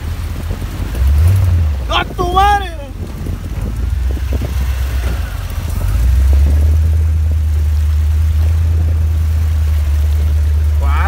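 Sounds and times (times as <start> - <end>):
vehicle engine running: 0.0 - 11.0
water splashing against tires: 0.0 - 11.0.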